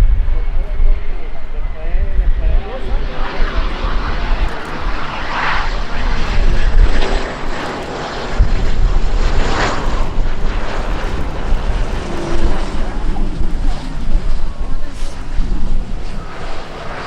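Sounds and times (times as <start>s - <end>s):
airplane engines rumbling: 0.0s - 17.0s.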